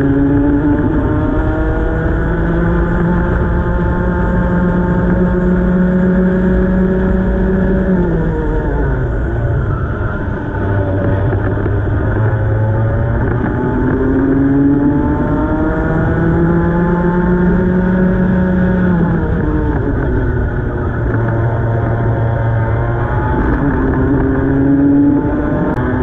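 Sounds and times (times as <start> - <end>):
kart engine at full throttle: 0.0 - 26.0
wind and tyre rumble: 0.0 - 26.0.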